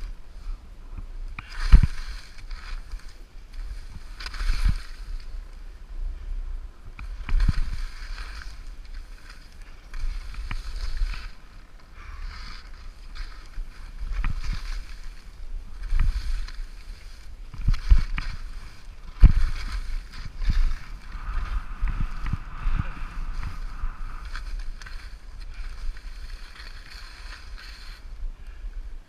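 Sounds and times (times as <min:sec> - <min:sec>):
skis hissing through snow: 0:01.4 - 0:05.6, 0:07.4 - 0:28.2
low rumble: 0:05.0 - 0:29.0.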